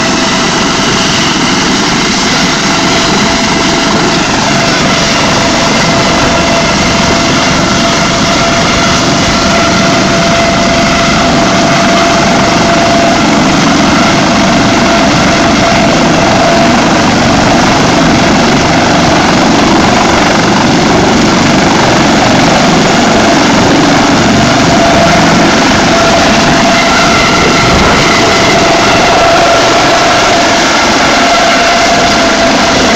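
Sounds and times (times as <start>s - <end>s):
helicopter rotor noise: 0.0s - 32.9s
helicopter turbine whine: 0.0s - 32.9s.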